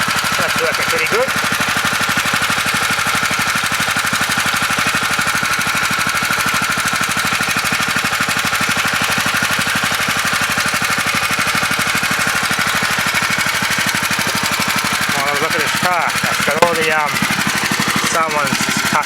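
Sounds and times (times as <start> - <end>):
engine-driven water pump running: 0.0 - 19.0.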